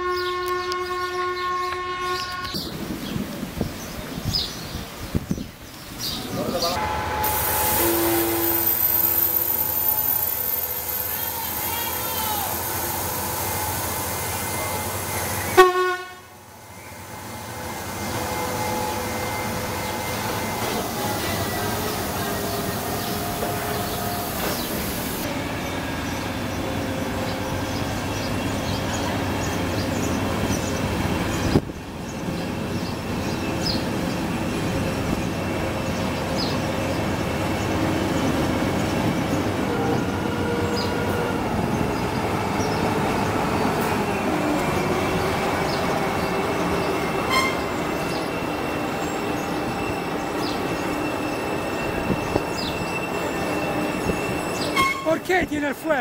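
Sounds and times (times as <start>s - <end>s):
train wheels rumbling on rail: 0.2s - 56.0s.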